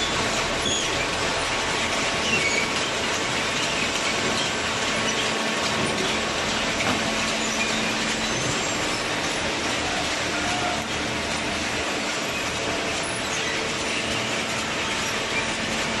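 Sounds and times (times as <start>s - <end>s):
baler machine running: 0.0s - 16.0s.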